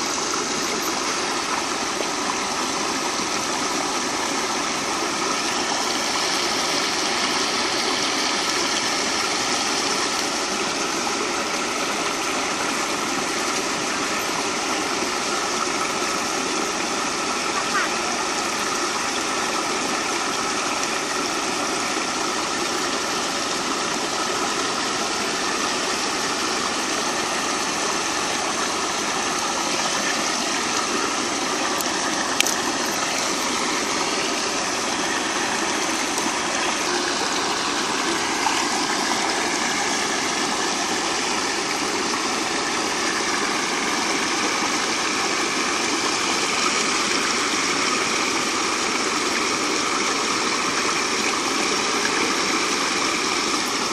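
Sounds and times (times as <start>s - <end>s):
river water rushing over weir: 0.0s - 53.9s.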